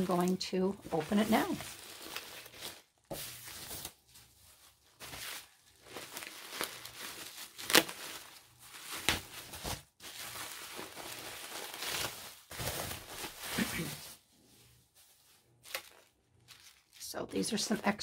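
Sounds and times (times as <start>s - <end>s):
wrapping crinkling and tearing: 0.0s - 14.2s, 14.9s - 18.0s.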